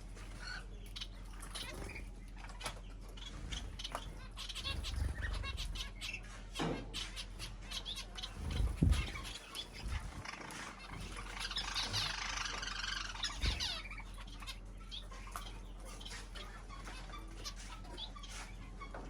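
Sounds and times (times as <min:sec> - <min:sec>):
birds pecking and fluttering: 0:00.0 - 0:19.0
small birds chirping: 0:00.0 - 0:19.0.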